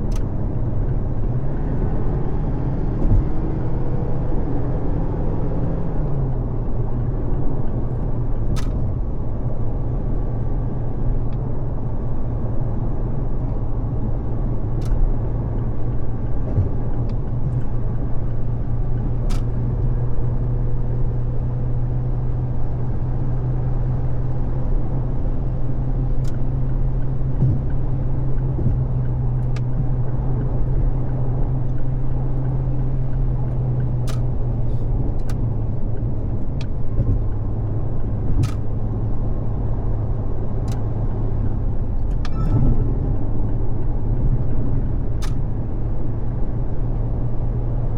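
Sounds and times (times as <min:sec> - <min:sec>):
low engine drone: 0:00.0 - 0:47.9
road and tyre noise: 0:00.0 - 0:47.9.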